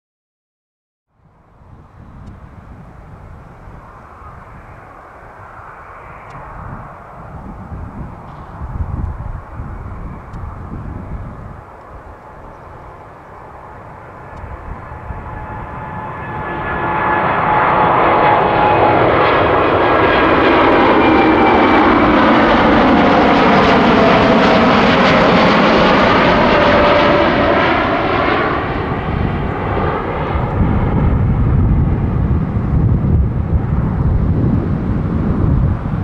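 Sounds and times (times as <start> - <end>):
jet airliner taking off: 1.3 - 36.0.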